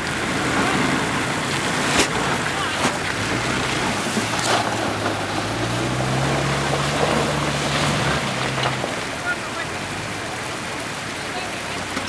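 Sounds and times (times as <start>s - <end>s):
suv engine humming: 0.0s - 12.0s.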